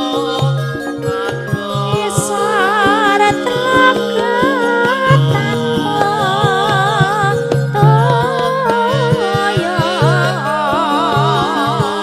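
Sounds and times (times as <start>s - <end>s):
drum strokes: 0.0s - 12.0s
live band playing: 0.0s - 12.0s
woman singing: 0.0s - 12.0s.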